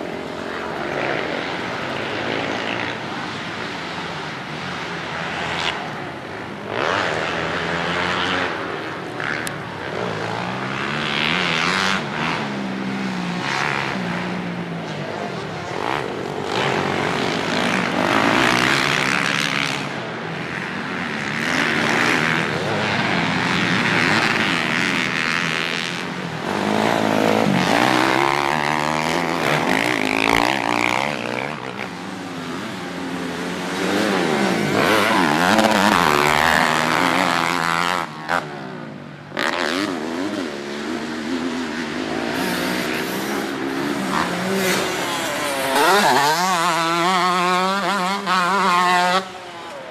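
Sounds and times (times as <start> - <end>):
dirt bike engine revving: 6.7 - 49.6.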